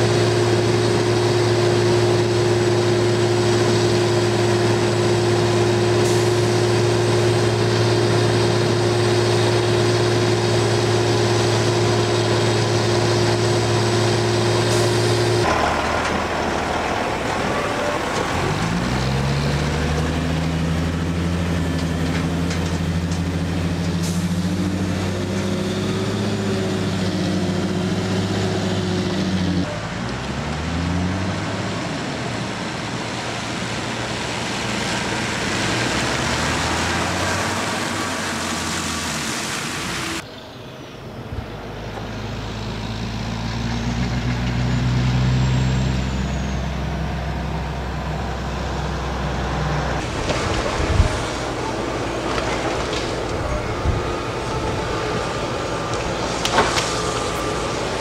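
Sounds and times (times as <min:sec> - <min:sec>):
heavy diesel engines running: 0:00.0 - 0:58.0
truck diesel engine pulling away: 0:00.0 - 0:58.0.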